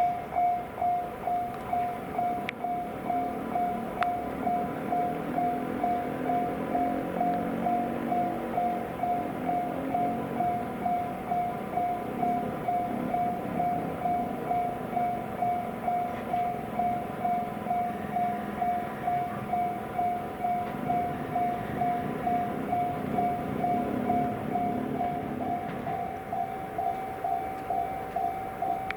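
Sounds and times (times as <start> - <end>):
level crossing warning bell: 0.0 - 28.9
low rumble of train: 0.0 - 28.9.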